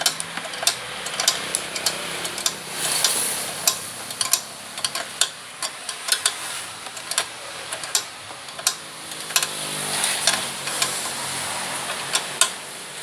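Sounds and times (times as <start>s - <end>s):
clicks and taps on scooter: 0.0s - 12.6s.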